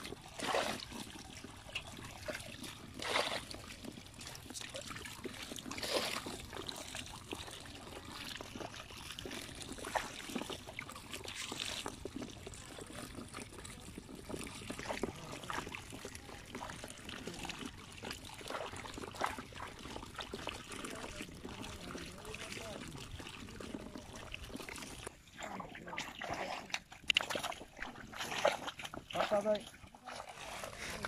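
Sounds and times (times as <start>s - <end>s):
small fish splashing and flapping: 0.0s - 31.0s
water pouring and trickling: 0.0s - 31.0s.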